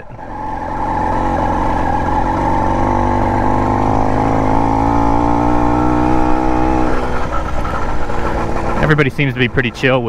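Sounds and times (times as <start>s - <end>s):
two-stroke engine running: 0.0s - 10.0s.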